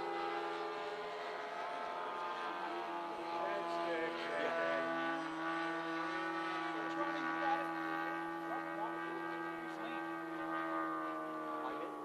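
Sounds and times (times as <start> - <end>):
model airplane motor droning: 0.0 - 12.0.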